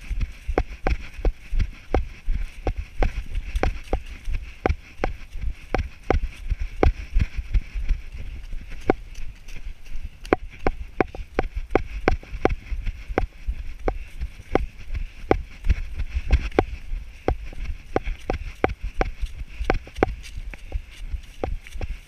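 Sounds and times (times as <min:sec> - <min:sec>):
running footsteps clicking: 0:00.0 - 0:22.0
wind rumble on microphone: 0:00.0 - 0:22.0.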